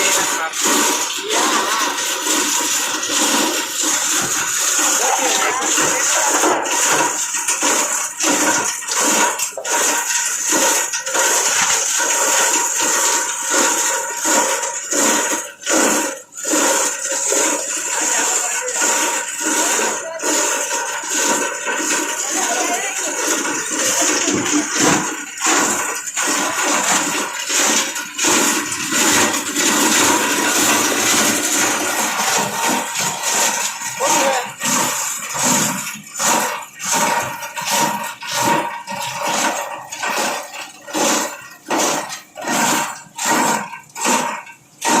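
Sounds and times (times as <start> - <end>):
plastic grinder hissing rush: 0.0 - 45.0.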